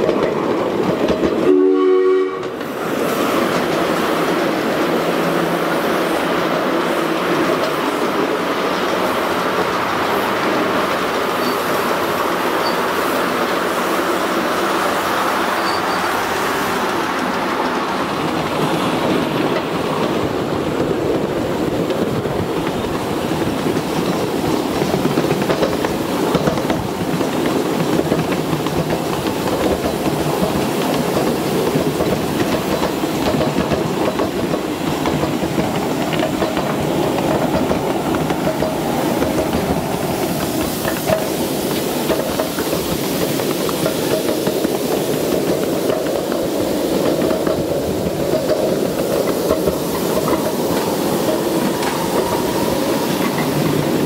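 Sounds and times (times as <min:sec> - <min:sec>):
train wheels clacking on rails: 0:00.0 - 0:54.0.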